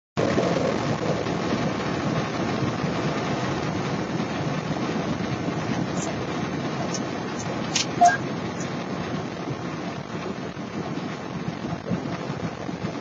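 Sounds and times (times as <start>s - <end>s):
car road and engine noise: 0.2s - 13.0s.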